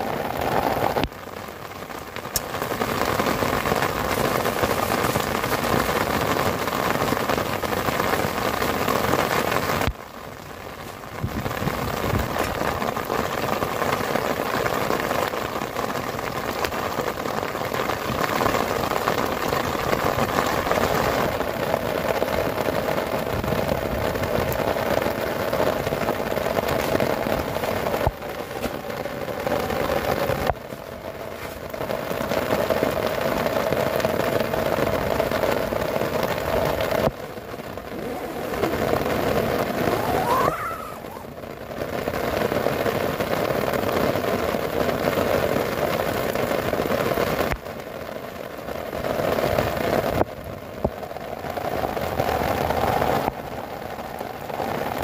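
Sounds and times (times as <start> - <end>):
heavy rain on tent fabric: 0.0 - 55.0.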